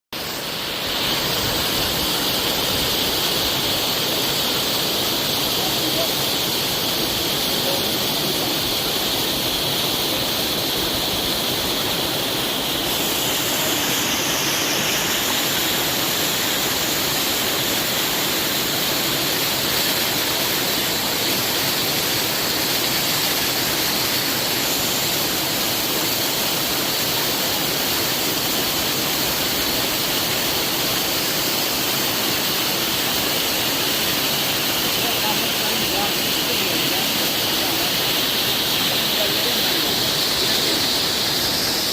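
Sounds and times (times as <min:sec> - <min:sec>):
waterfall roaring: 0:00.2 - 0:41.9.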